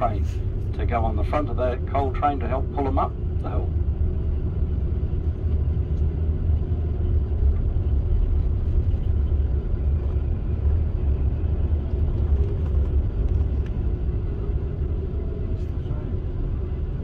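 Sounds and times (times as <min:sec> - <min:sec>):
bus engine rumble: 0:00.0 - 0:17.0
road noise: 0:00.0 - 0:17.0.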